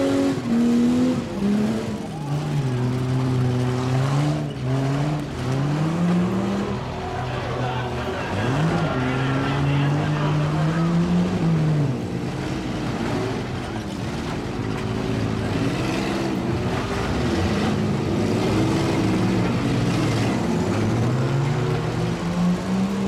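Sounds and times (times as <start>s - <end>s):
vehicle engines revving: 0.0s - 23.0s.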